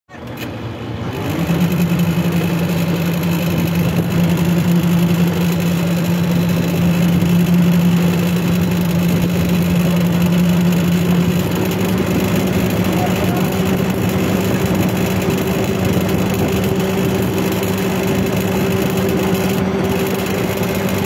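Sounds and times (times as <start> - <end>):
boat engine humming: 0.1 - 21.0.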